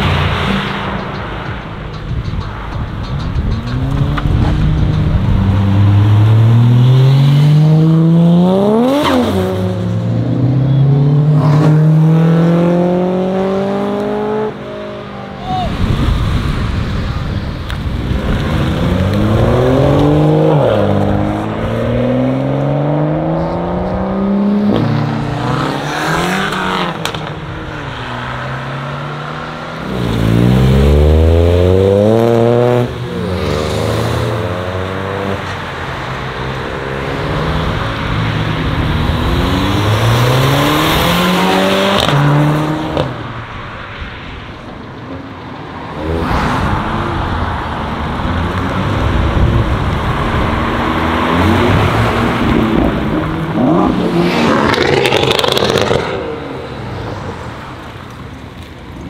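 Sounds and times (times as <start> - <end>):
cars accelerating hard: 0.0 - 44.1, 45.2 - 58.7.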